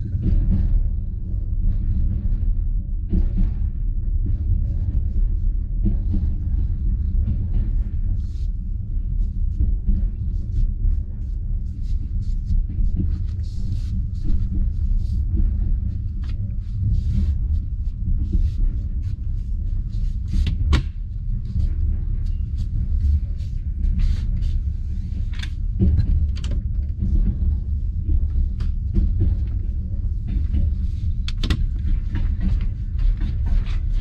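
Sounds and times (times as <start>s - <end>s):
railway carriage rumble: 0.0s - 34.0s.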